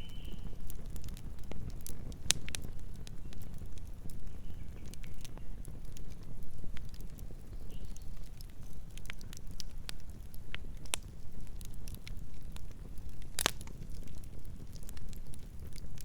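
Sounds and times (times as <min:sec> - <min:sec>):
burning wood crackling and popping: 0:00.0 - 0:16.0
flames rumbling: 0:00.0 - 0:16.0.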